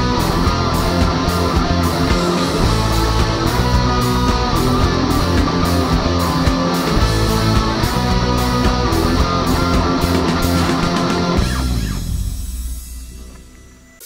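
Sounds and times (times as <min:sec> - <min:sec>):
rock music with guitar and beat: 0:00.0 - 0:14.0.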